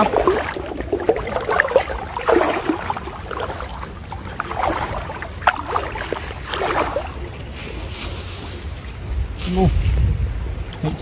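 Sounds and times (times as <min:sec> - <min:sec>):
water sloshing from wading: 0:00.0 - 0:09.0.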